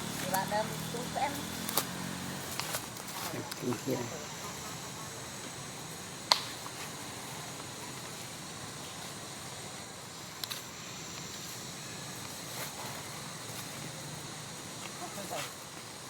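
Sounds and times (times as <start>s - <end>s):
faint insect drone: 0.0s - 16.0s.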